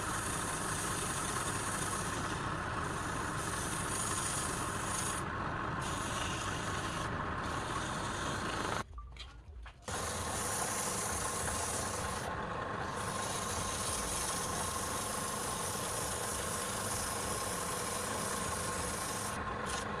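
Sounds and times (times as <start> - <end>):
lathe whine: 0.0 - 8.8, 9.9 - 20.0.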